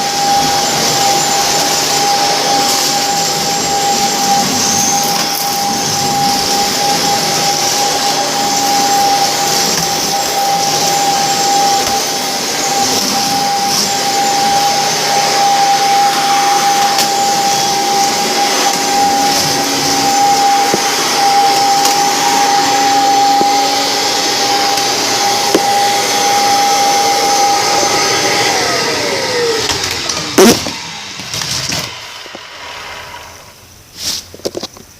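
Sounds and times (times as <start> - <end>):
vacuum motor winding down: 0.0 - 33.7
vacuum cleaner running: 0.0 - 34.7.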